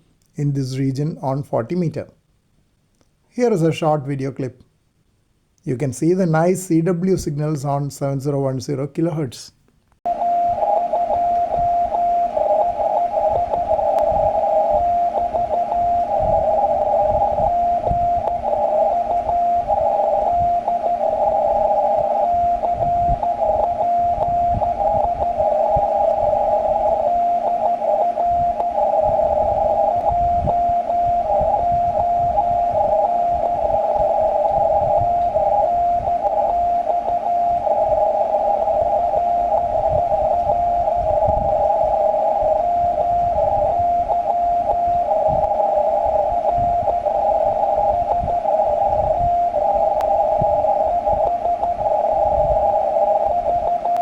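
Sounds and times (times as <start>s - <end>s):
static crackles: 9.9s - 54.0s
morse code tone: 10.1s - 54.0s.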